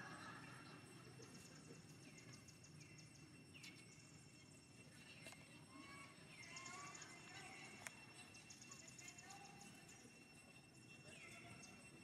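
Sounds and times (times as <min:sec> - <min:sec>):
high chirping trills: 0:00.0 - 0:12.0
low background hiss: 0:00.0 - 0:12.0.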